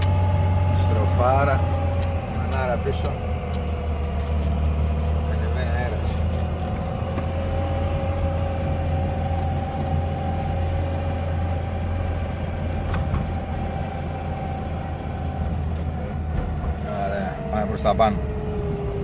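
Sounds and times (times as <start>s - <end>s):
car engine drone: 0.0s - 19.0s
road noise: 0.0s - 19.0s
steady whine: 0.0s - 19.0s.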